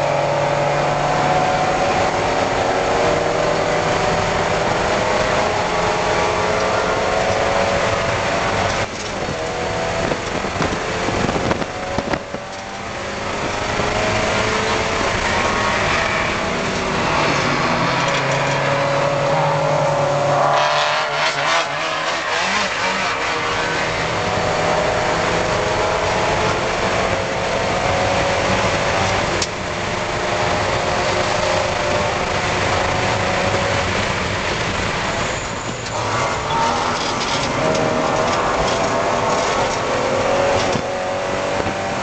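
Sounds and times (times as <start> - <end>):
race car engine running hard: 0.0 - 42.0
wind and road noise: 0.0 - 42.0.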